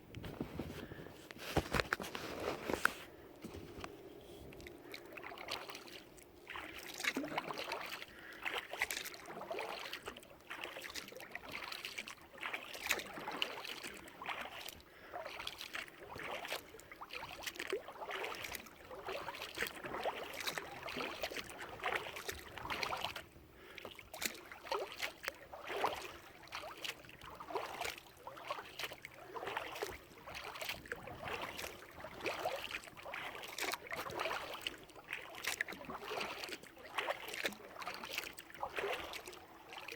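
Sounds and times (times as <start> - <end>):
kayak paddle strokes in water: 0.0 - 39.9.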